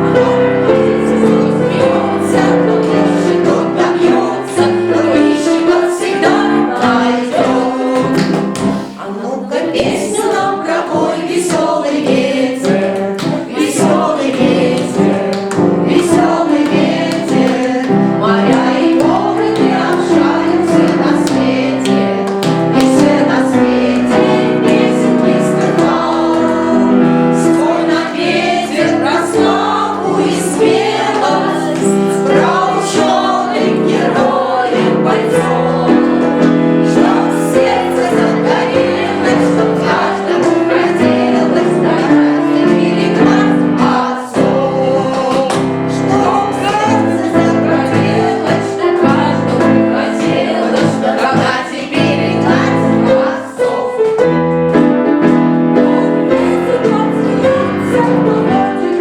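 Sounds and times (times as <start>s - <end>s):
children's choir singing: 0.0s - 59.0s
piano accompaniment: 0.0s - 59.0s.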